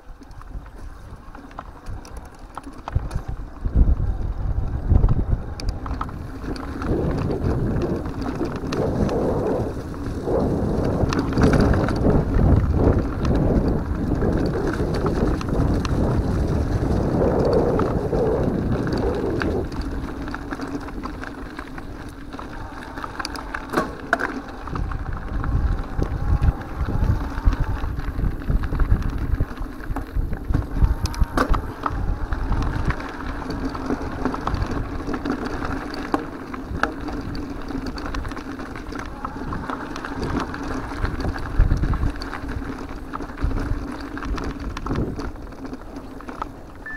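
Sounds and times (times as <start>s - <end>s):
bike clicks and rattles: 0.0s - 46.9s
bike tyres rumbling on dirt: 0.0s - 46.9s
wind buffeting microphone: 0.0s - 46.9s.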